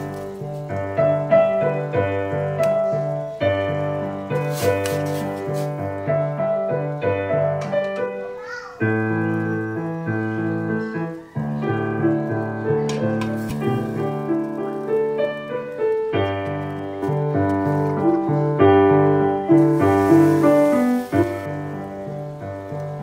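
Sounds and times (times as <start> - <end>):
broth boiling hiss: 0.0 - 6.8, 8.8 - 23.0
piano melody: 0.0 - 23.0.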